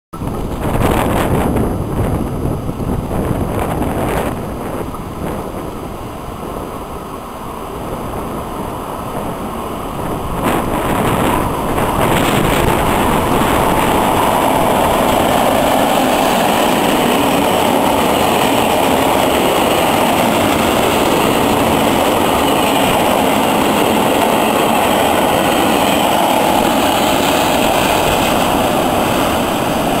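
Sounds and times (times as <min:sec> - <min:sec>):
diesel locomotive passing: 0:00.2 - 0:30.0
wheels rushing on rail: 0:00.2 - 0:30.0
wind buffeting microphone: 0:00.2 - 0:30.0.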